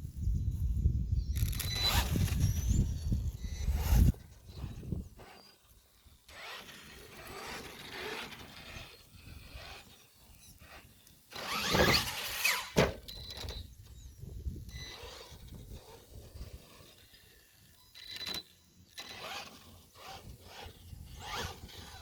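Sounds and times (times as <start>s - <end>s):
radio-controlled truck motor whine: 1.2s - 22.0s.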